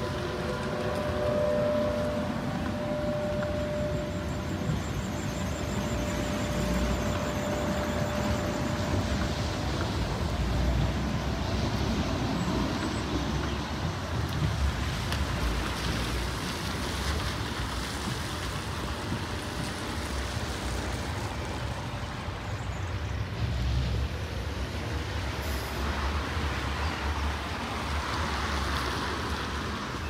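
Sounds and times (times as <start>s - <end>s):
road noise: 0.0s - 30.0s
vehicle rumble: 0.0s - 30.0s.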